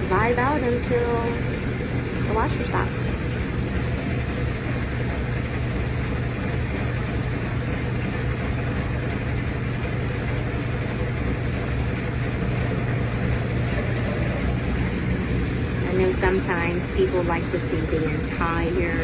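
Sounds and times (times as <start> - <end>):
washing machine spin hum: 0.0 - 19.0.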